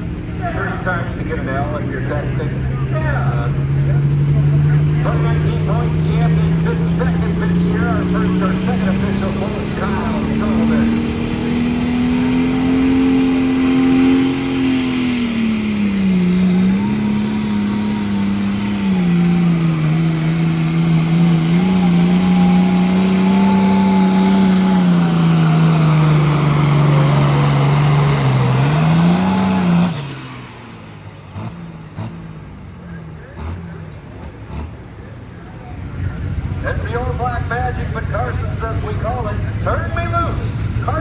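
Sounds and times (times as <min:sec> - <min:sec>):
engine at full throttle: 0:00.0 - 0:41.0.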